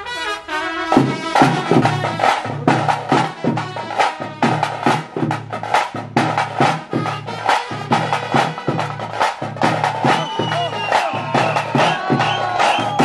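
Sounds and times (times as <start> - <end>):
drums beating fast rhythm: 0.9 - 13.0.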